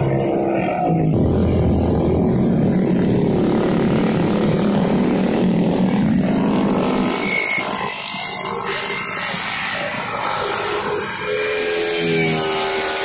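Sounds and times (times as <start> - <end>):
motorcycles passing by: 0.0 - 13.0.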